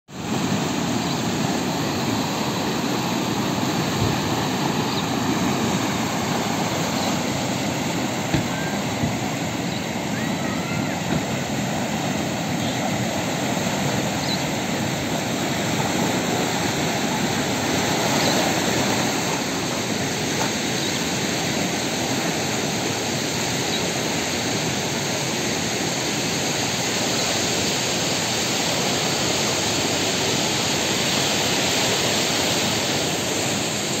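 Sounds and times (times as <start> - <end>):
river water rushing: 0.1 - 34.0.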